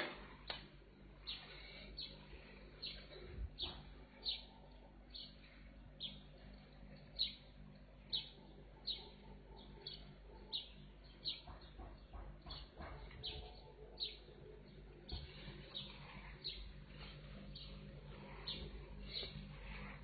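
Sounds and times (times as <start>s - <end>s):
low steady hum: 0.0s - 20.0s
small bird chirping: 1.2s - 20.0s.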